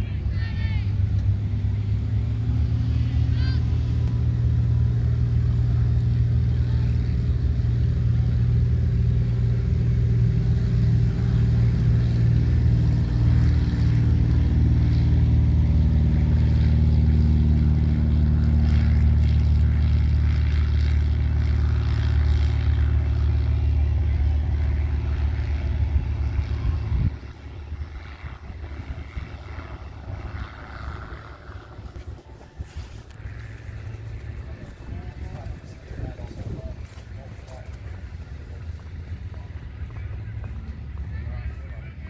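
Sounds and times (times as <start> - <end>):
engine running with deep hum: 0.0 - 42.0.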